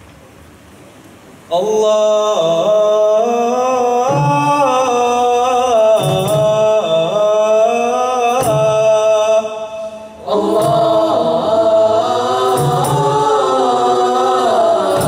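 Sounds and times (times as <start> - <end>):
boys singing a cappella: 1.5 - 15.0.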